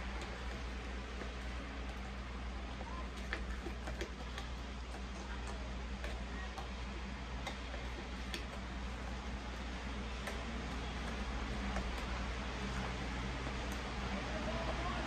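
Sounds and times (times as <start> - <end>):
hands squishing wet batter: 0.0 - 15.0.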